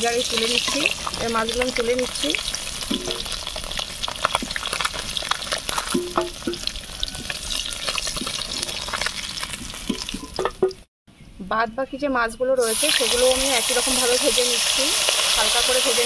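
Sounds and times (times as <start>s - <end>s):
fish frying in sizzling oil: 0.0s - 10.5s, 12.6s - 16.0s.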